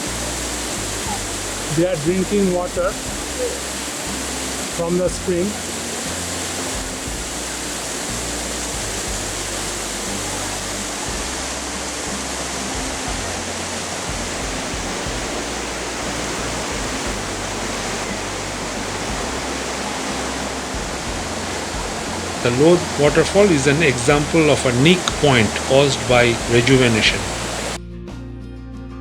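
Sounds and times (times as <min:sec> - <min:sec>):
waterfall roar: 0:00.0 - 0:27.8
background music bass notes: 0:00.0 - 0:29.0.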